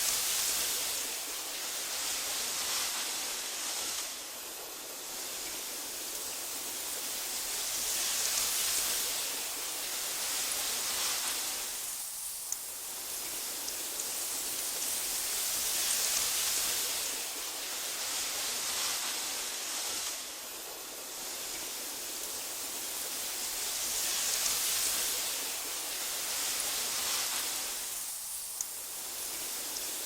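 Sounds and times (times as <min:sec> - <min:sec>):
wind through grass: 0:00.0 - 0:30.0.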